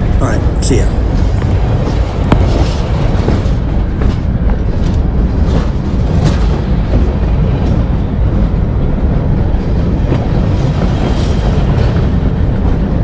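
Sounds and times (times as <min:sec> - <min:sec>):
freight train rumbling overhead: 0:00.0 - 0:13.0.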